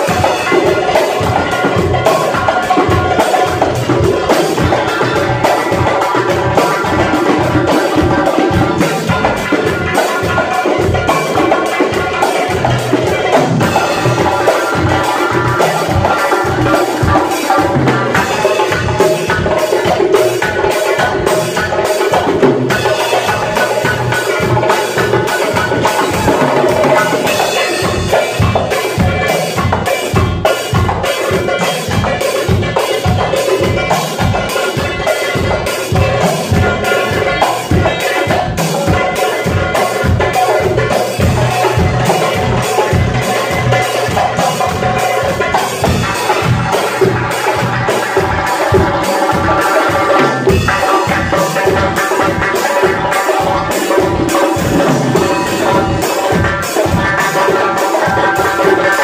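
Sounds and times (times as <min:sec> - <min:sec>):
drum kit: 0:00.0 - 0:59.0
fast frame drum rhythm: 0:00.0 - 0:59.0
keyboard: 0:00.0 - 0:59.0.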